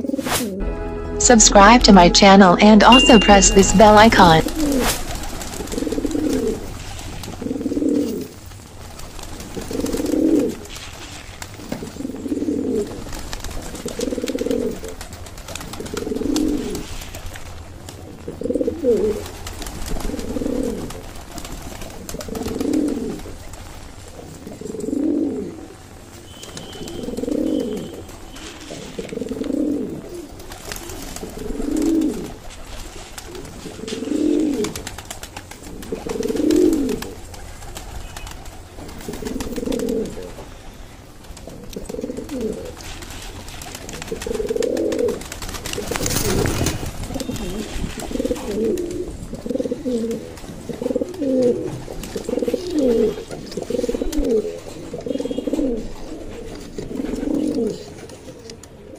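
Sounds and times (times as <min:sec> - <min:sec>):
pigeons cooing: 0:04.5 - 0:17.5, 0:18.1 - 0:26.0, 0:26.6 - 0:37.8, 0:38.4 - 0:40.8, 0:41.4 - 0:58.9.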